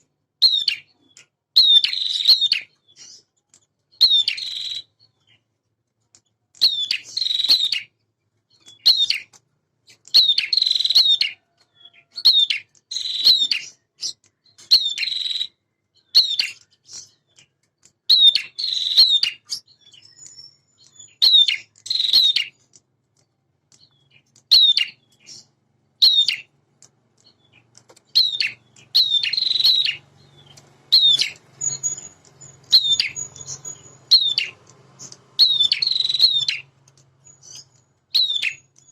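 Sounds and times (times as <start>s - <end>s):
bird singing sharp chirps: 0.4s - 3.3s, 3.9s - 5.4s, 6.6s - 7.9s, 8.5s - 9.3s, 9.9s - 17.4s, 18.1s - 22.6s, 23.8s - 26.5s, 27.2s - 38.9s.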